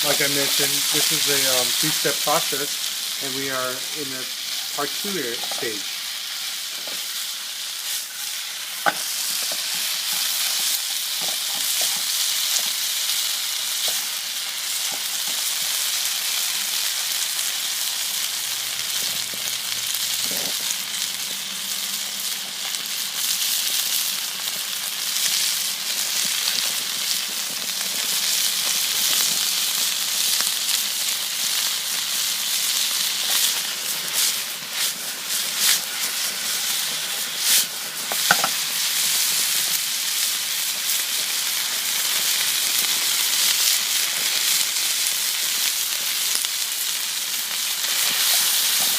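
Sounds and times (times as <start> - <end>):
ribs sizzling in hot oil: 0.0 - 48.9.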